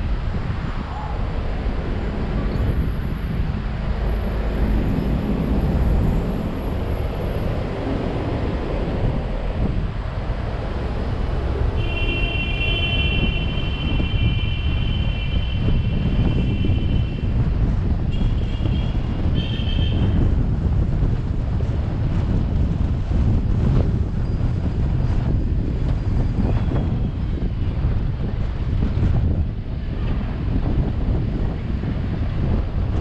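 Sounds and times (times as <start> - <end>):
road and wind noise: 0.0 - 33.0.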